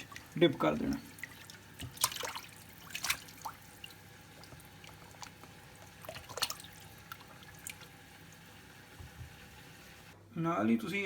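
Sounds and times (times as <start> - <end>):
water splashing in a bowl: 0.0 - 9.5.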